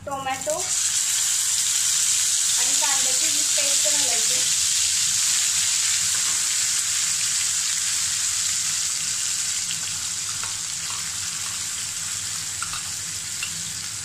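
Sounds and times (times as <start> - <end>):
paste sizzling in hot oil: 0.4 - 14.0.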